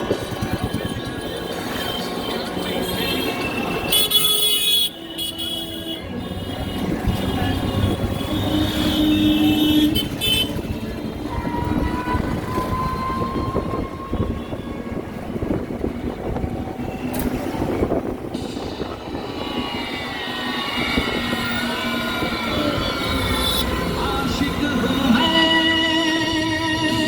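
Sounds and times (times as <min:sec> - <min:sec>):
street traffic: 0:00.0 - 0:27.0
vehicle horns honking: 0:00.6 - 0:15.8, 0:16.8 - 0:26.0.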